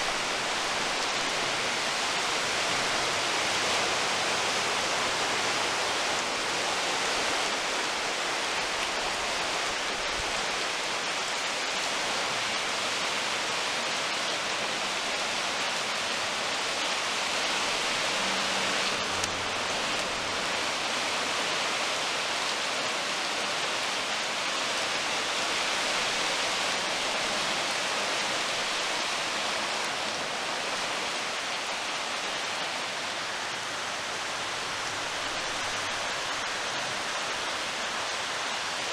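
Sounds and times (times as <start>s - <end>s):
flood water rushing against pier: 0.0s - 38.9s.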